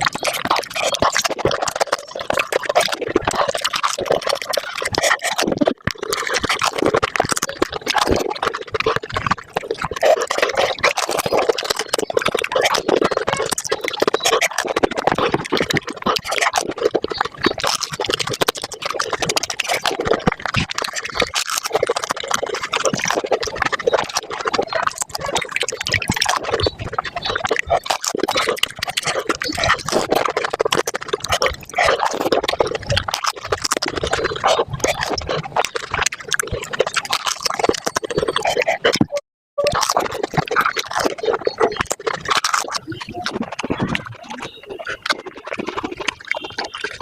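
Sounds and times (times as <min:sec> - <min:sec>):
wet slurping and chewing: 0:00.0 - 0:47.0.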